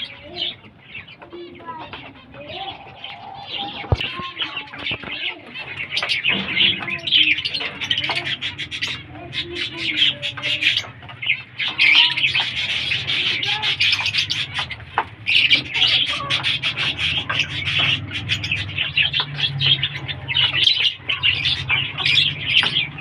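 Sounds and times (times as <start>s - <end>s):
lovebirds chirping: 0.0s - 23.0s.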